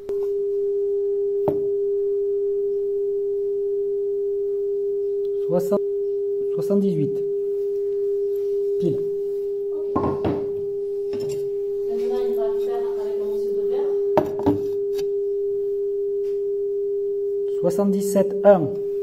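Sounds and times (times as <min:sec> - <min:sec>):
steady pure tone: 0:00.0 - 0:19.0.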